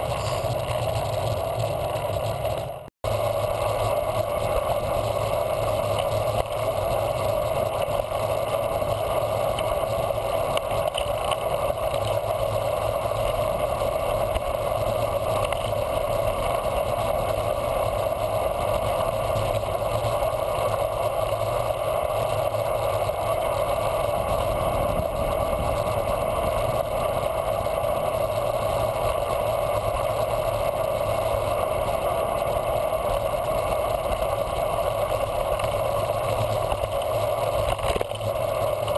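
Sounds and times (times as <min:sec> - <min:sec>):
wind and bicycle tyre noise: 0:00.0 - 0:38.9.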